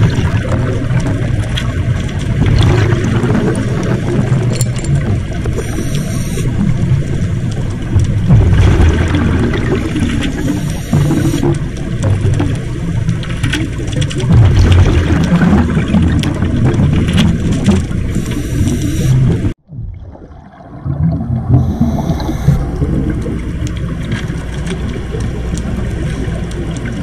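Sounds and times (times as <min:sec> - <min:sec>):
exhaust bubbles rumbling: 0:00.0 - 0:27.0.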